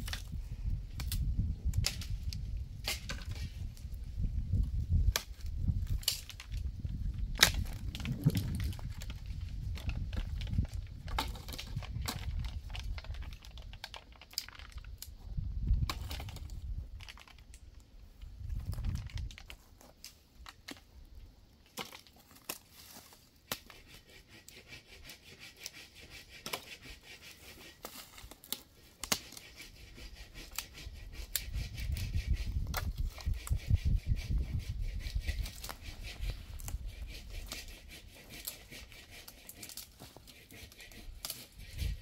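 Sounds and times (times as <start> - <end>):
dry wood crackling and snapping: 0.0 - 42.0.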